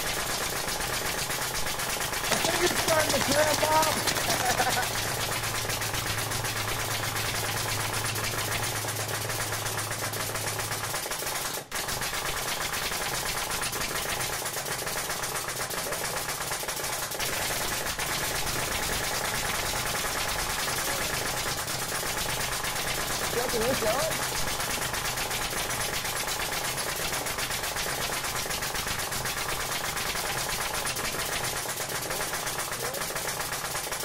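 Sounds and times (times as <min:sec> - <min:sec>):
nail gun firing: 0:00.0 - 0:34.0.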